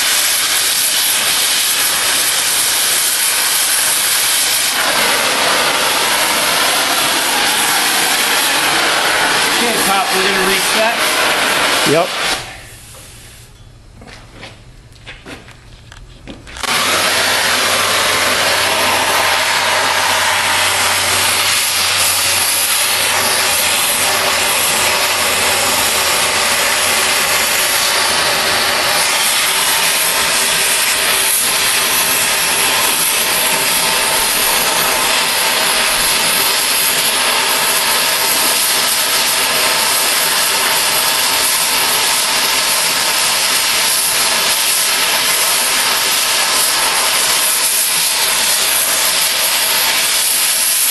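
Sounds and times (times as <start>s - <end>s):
cutting torch hissing: 0.0s - 13.6s, 16.6s - 50.9s.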